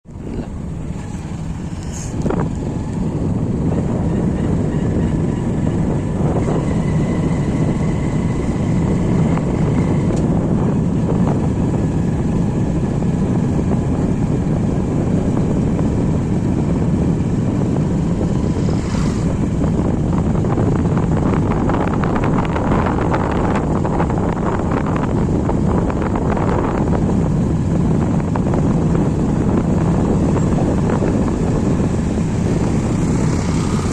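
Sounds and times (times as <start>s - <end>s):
moving vehicle running noise: 0.0s - 33.9s
wind buffeting microphone: 0.0s - 33.9s.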